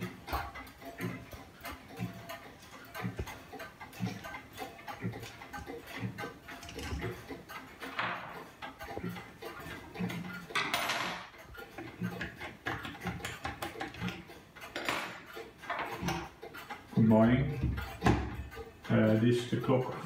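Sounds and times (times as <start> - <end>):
clock movement clicks and rattles: 0.0 - 20.0
pendulum clocks ticking: 0.0 - 20.0.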